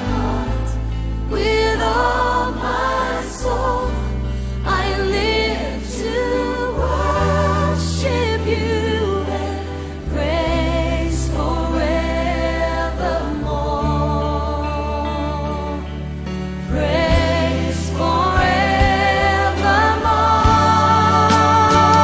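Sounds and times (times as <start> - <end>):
choir singing a hymn: 0.0 - 22.0
low accompaniment chords: 0.0 - 22.0.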